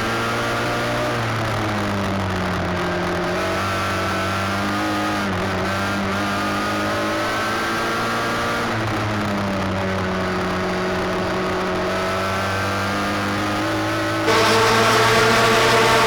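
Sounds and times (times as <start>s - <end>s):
race car engine at speed: 0.0s - 16.0s.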